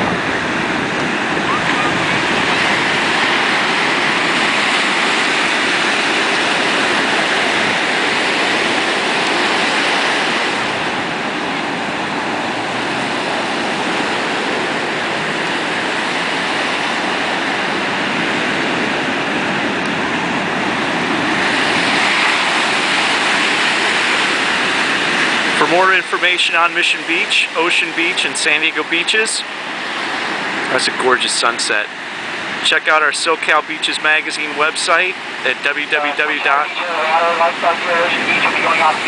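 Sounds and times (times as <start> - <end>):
ocean surf breaking: 0.0 - 39.0.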